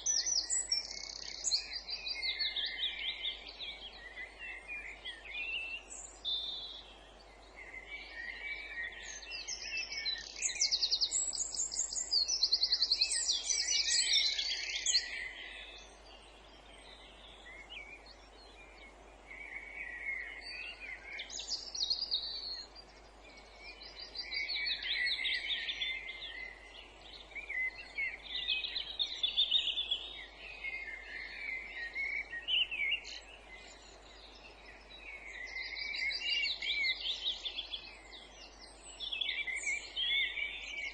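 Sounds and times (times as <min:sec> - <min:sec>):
faint steady hiss: 0:00.0 - 0:40.9
songbirds singing: 0:00.0 - 0:40.9.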